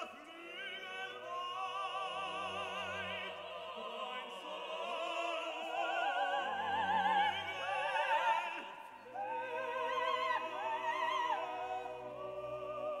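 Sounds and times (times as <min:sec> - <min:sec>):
opera-style singing: 0:00.0 - 0:13.0.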